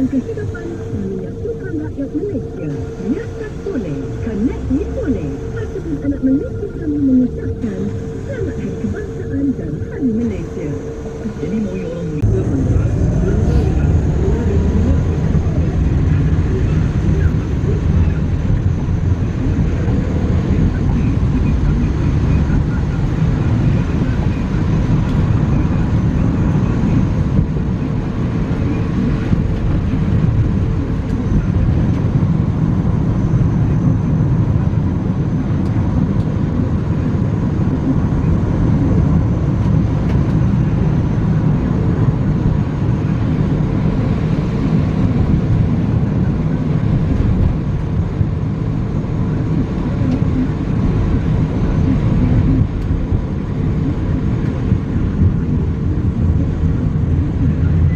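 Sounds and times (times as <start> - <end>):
tyre and road noise: 0.0 - 57.9.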